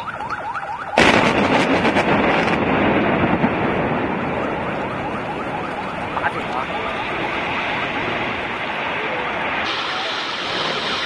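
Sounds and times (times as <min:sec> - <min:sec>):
demolition blast with sharp cracks: 0:00.9 - 0:11.0
rumble of building collapsing: 0:01.0 - 0:11.0.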